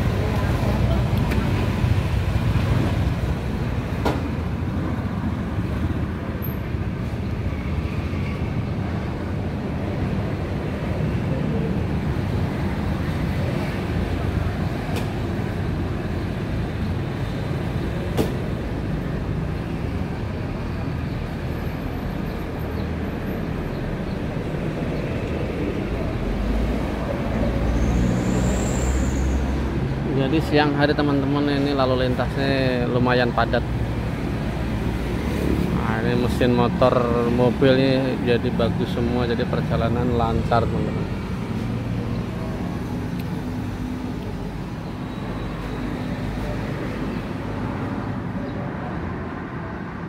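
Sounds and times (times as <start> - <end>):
cars passing: 0.0 - 50.0.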